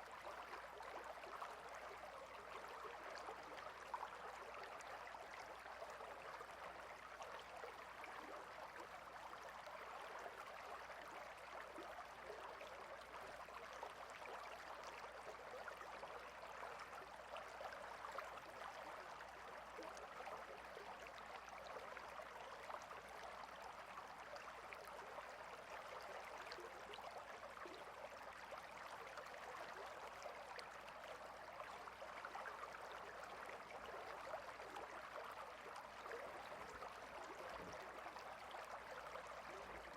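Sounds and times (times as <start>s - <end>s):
small stream babbling: 0.0s - 39.9s.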